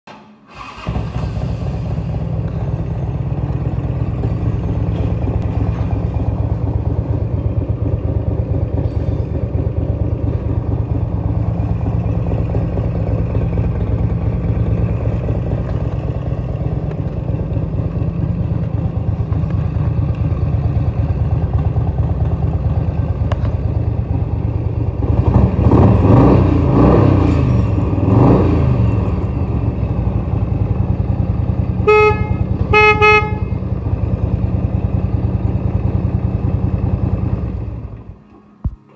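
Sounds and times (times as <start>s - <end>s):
motorcycle engine idling and revving: 0.6s - 38.9s.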